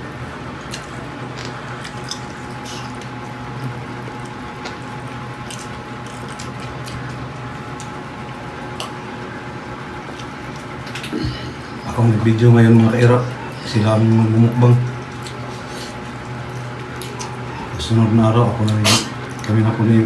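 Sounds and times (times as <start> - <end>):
steady low hum: 0.0 - 20.0
wet chewing and mouth sounds: 0.5 - 9.2, 9.9 - 11.8, 12.8 - 19.6.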